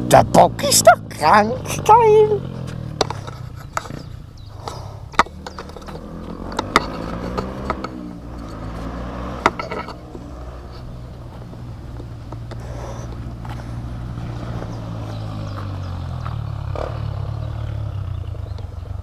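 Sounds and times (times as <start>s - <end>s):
motorcycle engine idling: 0.0s - 8.8s, 9.4s - 19.0s.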